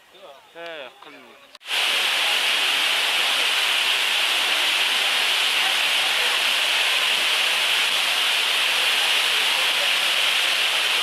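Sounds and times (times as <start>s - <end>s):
steady hiss: 1.6s - 11.0s.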